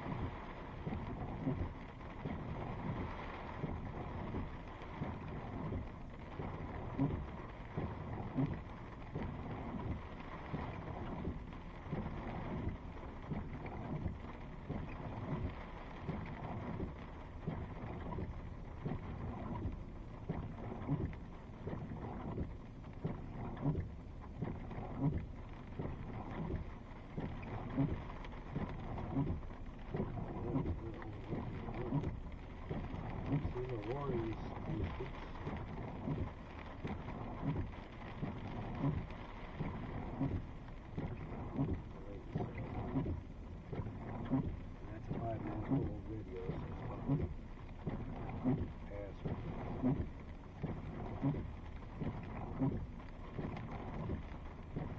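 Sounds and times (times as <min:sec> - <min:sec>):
rain and wind rushing: 0:00.0 - 0:54.9.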